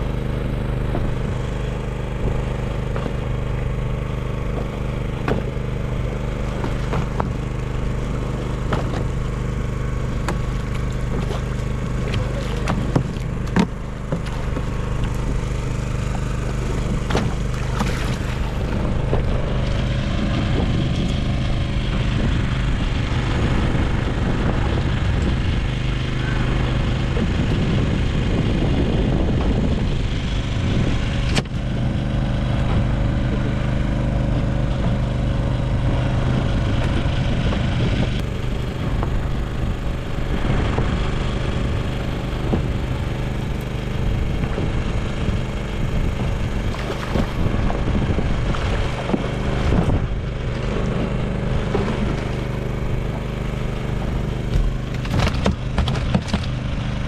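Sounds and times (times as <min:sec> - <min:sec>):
engine droning steadily: 0:00.0 - 0:57.0.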